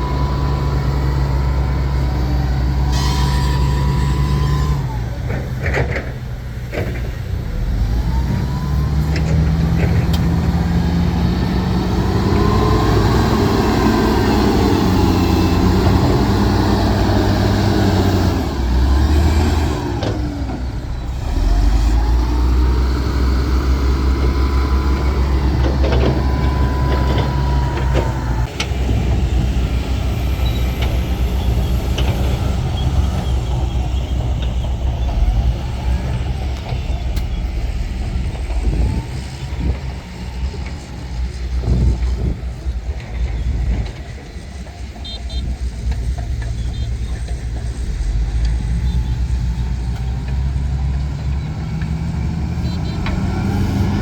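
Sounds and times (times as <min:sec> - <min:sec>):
diesel earthmoving machinery engine: 0:00.0 - 0:54.0.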